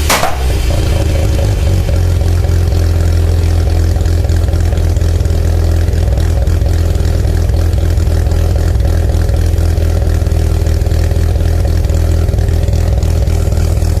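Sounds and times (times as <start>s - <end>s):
rotary engine idling: 0.0s - 14.0s.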